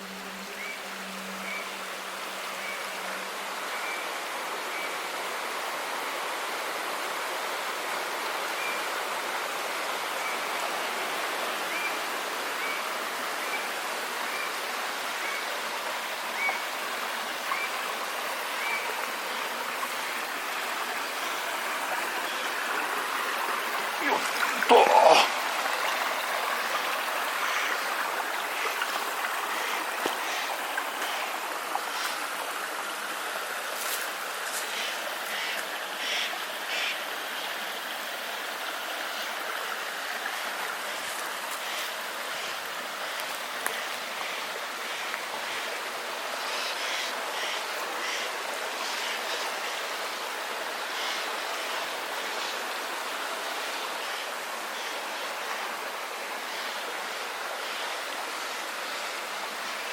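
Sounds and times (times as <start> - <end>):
mountain stream and waterfall: 0.0 - 59.9.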